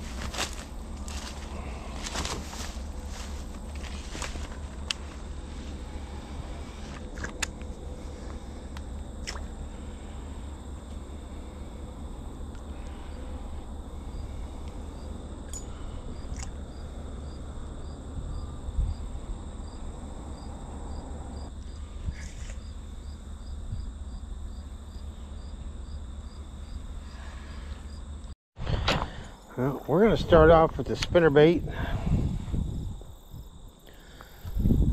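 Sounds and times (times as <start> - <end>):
low steady rumble: 0.0 - 28.4
crickets chirping: 0.0 - 34.9
high insect hum: 0.0 - 34.9.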